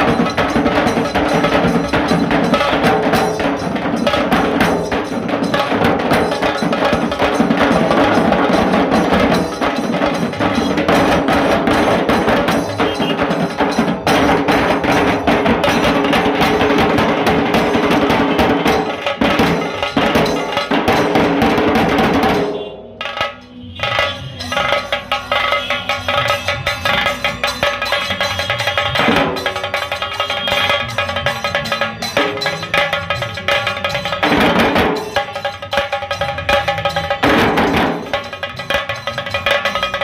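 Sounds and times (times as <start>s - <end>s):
band drumming dense rhythm: 0.0s - 40.0s.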